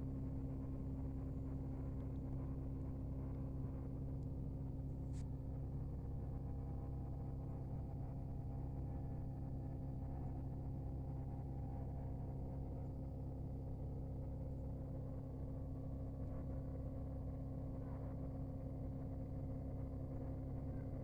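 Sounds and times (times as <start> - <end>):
steady low rumble with hum: 0.0 - 21.0.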